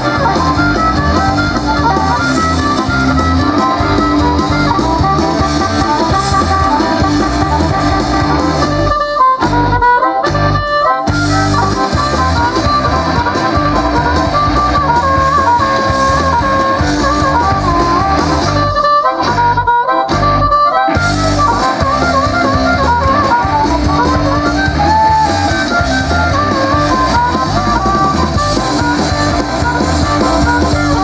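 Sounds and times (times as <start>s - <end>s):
harmonica lead: 0.0s - 31.0s
rock band playing shuffle: 0.0s - 31.0s.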